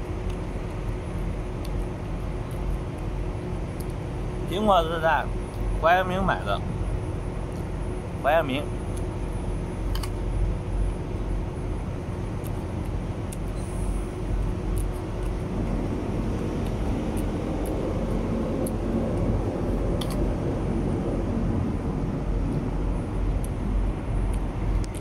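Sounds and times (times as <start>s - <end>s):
engine hum: 0.0s - 25.0s.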